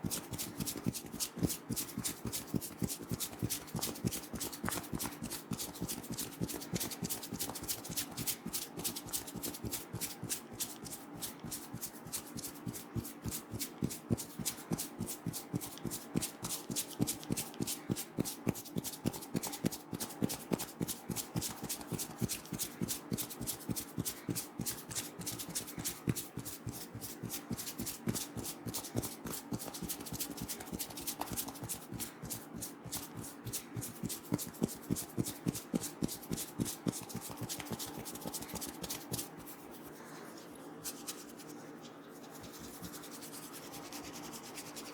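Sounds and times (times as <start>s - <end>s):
hands striking and rubbing head: 0.1s - 40.0s, 40.8s - 44.0s.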